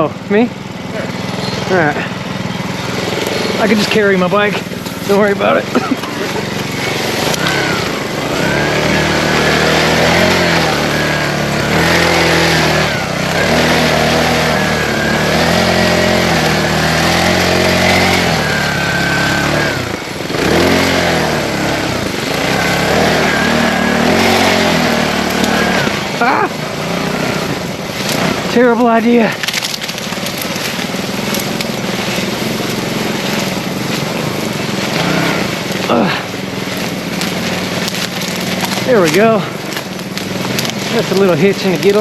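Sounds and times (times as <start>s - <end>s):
small engine revving unevenly: 0.0s - 42.0s.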